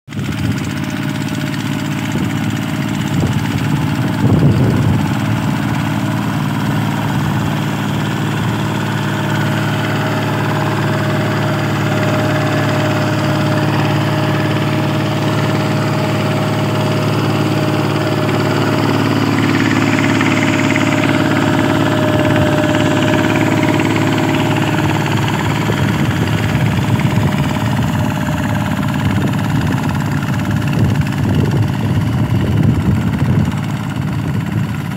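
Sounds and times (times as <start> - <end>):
diesel tractor engine running: 0.1 - 34.9.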